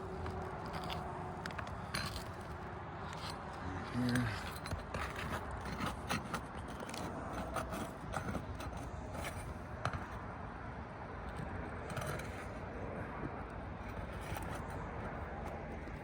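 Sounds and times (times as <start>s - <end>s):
tool scraping under shingles: 0.0s - 10.3s, 11.3s - 16.0s.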